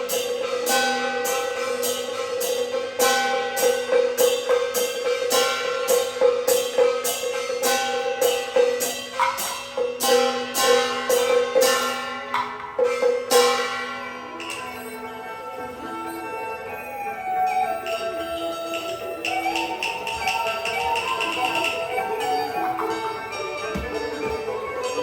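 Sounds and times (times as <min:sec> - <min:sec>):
clappers and drum strokes: 0:00.0 - 0:13.8, 0:17.7 - 0:25.0.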